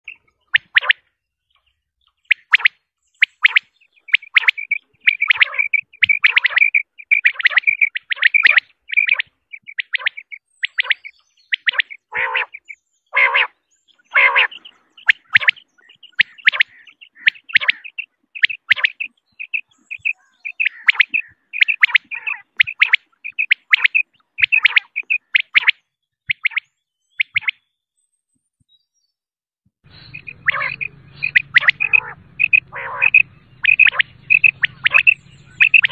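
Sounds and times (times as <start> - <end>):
quail chirping calls: 0.0 - 27.6, 29.9 - 35.9.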